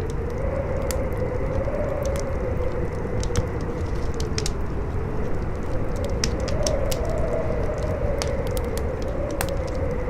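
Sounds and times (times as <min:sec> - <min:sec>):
fire crackling and popping: 0:00.0 - 0:10.0
howling wind: 0:00.0 - 0:10.0.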